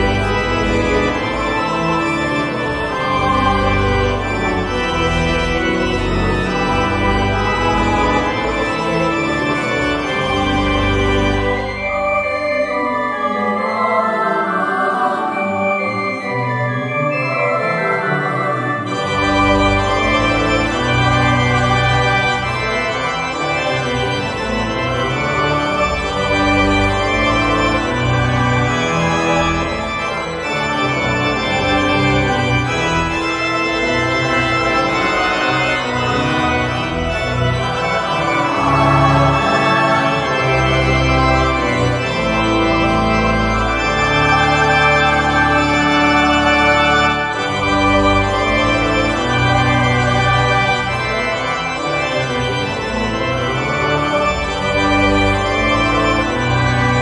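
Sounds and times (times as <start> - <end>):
deep organ bass notes: 0.0 - 12.2, 18.9 - 57.0
organ chords: 0.0 - 57.0.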